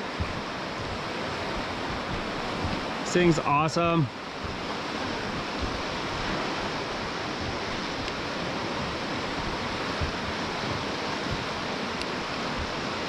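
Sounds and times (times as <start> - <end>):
river rushing whitewater: 0.0 - 13.0.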